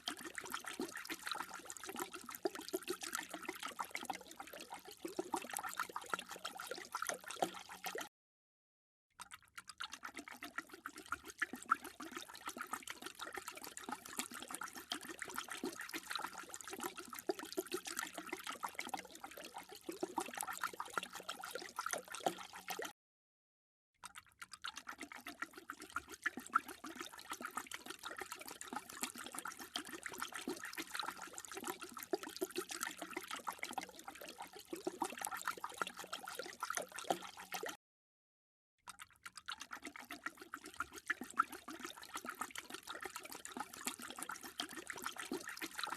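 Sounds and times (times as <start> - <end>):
dog lapping water: 0.0 - 8.1, 9.2 - 22.9, 24.0 - 37.8, 38.9 - 45.9.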